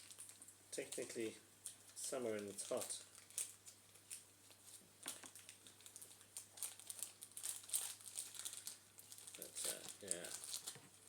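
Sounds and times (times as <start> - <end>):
crinkling and rustling: 0.0 - 11.0.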